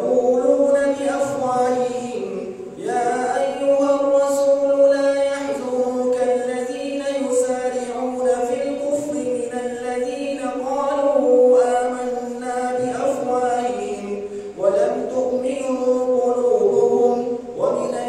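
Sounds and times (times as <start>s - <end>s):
man reciting in chanted style: 0.0s - 18.0s.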